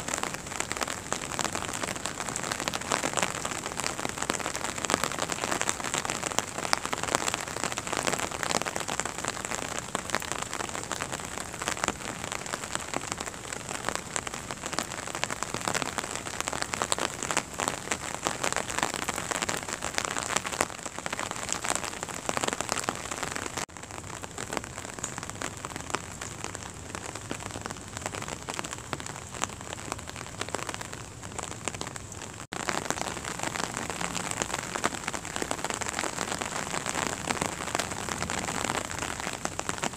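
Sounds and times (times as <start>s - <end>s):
rain on paving and leaves: 0.0s - 39.9s.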